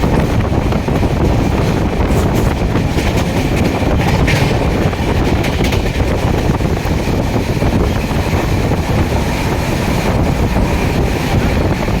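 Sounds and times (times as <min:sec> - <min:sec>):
train passing rumble: 0:00.0 - 0:12.0
wind buffeting microphone: 0:00.0 - 0:12.0.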